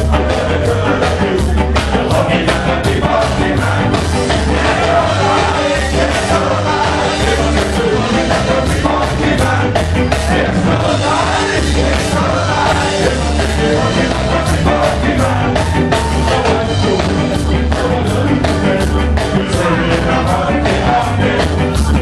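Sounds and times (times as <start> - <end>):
lead vocalist singing: 0.0 - 22.0
live ska band playing: 0.0 - 22.0.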